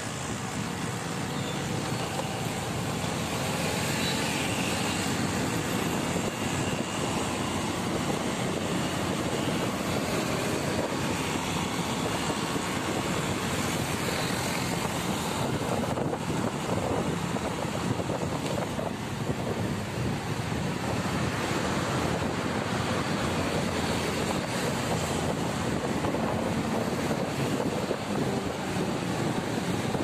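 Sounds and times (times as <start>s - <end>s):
motorbike engine and tyres: 0.0s - 30.0s
wind on microphone: 0.1s - 30.0s.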